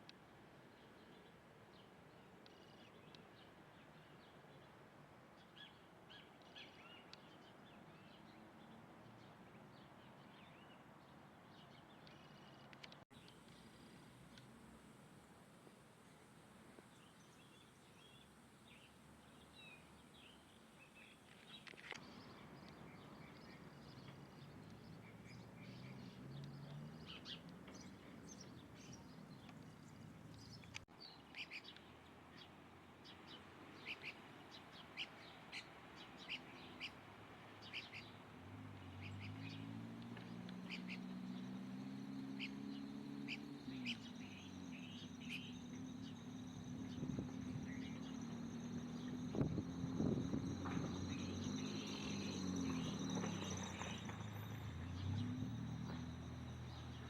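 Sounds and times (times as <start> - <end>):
small birds chirping: 0.1 - 4.8, 5.4 - 14.6, 16.8 - 57.0.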